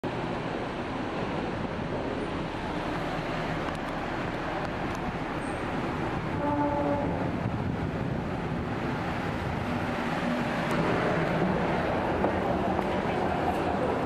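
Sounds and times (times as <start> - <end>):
ferry engine running: 0.0 - 14.0.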